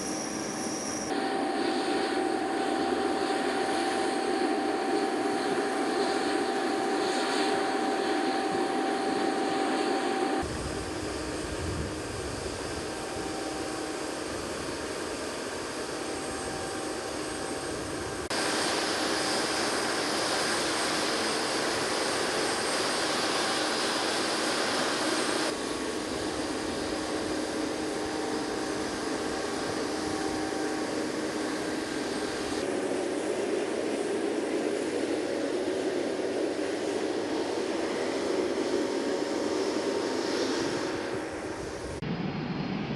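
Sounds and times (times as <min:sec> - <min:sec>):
jet engines rushing and whining: 0:00.0 - 0:42.9.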